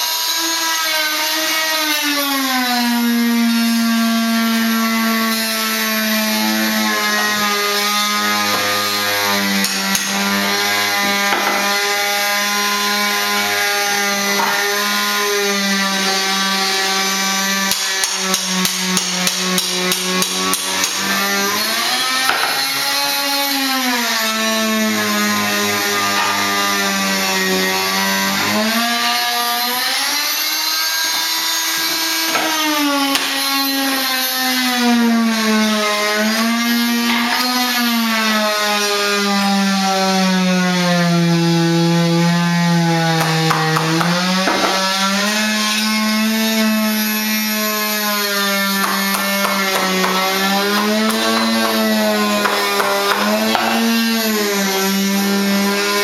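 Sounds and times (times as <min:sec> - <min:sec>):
oscillating tool cutting wood: 0:00.0 - 0:39.7, 0:40.3 - 0:56.0.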